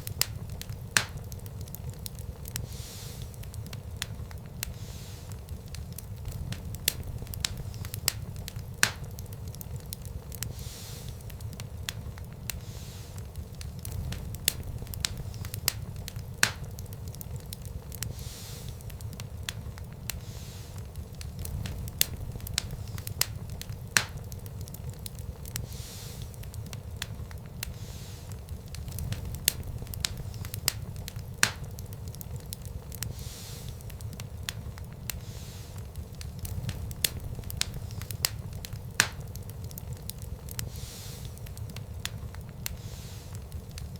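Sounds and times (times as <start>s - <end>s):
fireplace fire crackling: 0.0s - 43.9s.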